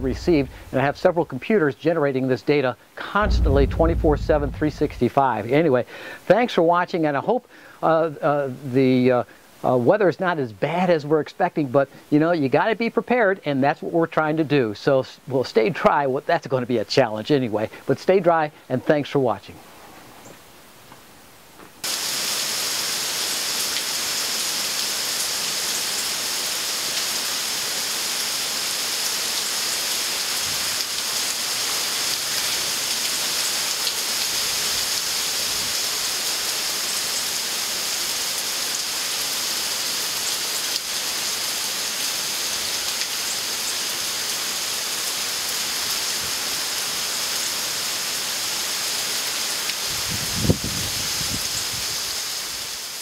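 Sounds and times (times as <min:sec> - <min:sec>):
heavy rain pouring on trees: 0:00.0 - 0:14.4, 0:21.8 - 0:53.0.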